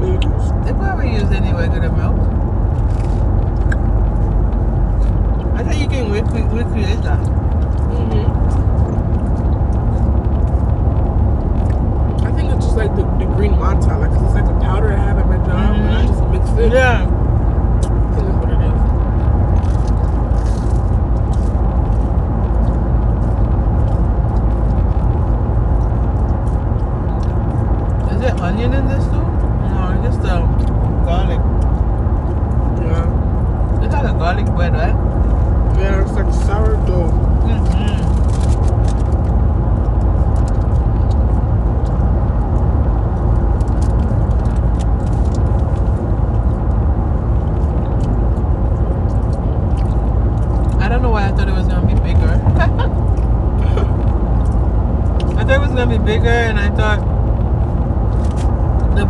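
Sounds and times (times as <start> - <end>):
car cabin low rumble: 0.0 - 59.0.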